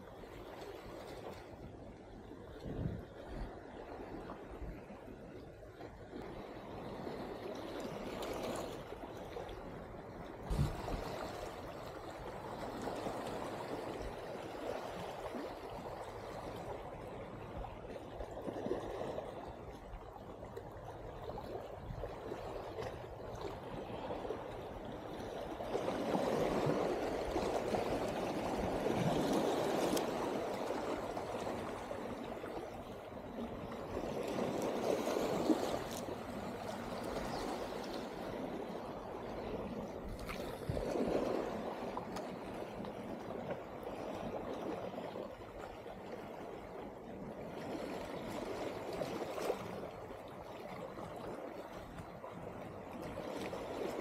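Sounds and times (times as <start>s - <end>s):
water lapping and sloshing: 0.0s - 54.0s.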